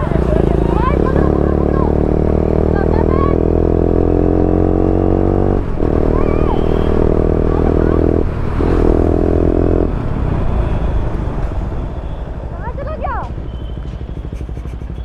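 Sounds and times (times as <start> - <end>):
motorcycle engine running: 0.0 - 10.0, 12.3 - 15.0
road and wind rumble: 0.0 - 15.0.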